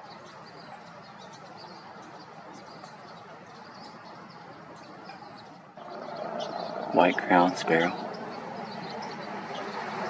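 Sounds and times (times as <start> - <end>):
songbirds chirping and singing: 0.0 - 10.0.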